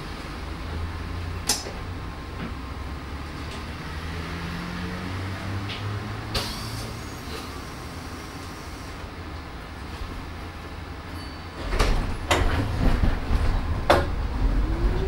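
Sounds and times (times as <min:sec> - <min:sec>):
tram rumbling on track: 0:00.0 - 0:15.0.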